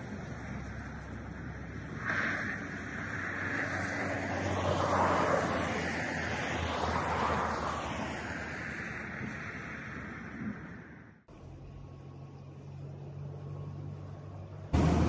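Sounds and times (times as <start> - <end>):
vehicle passing on highway: 0.0 - 15.0.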